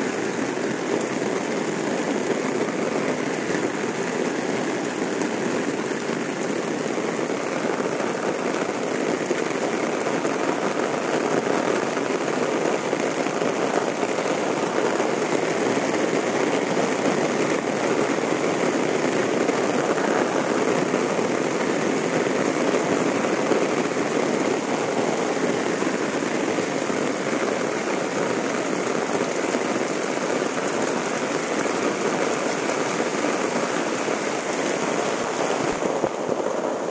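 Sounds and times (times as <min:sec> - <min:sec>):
heavy rain on asphalt road: 0:00.0 - 0:36.9.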